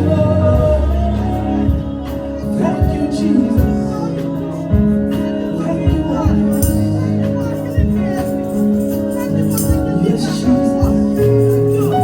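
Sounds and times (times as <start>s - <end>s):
keyboard chords: 0.0s - 12.0s
person singing: 0.0s - 12.0s.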